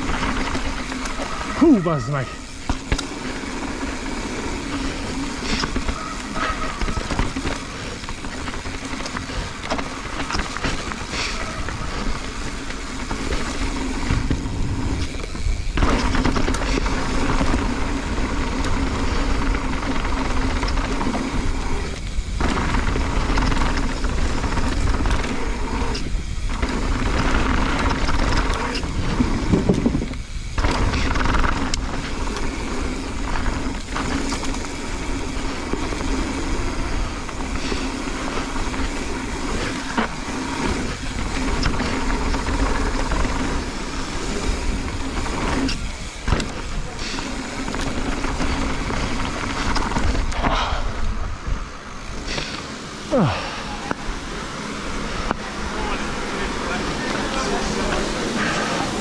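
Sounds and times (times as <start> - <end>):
bike clicks and rattles: 0.0 - 59.0
tyres rolling on dirt: 0.0 - 59.0
wind buffeting microphone: 2.9 - 52.3.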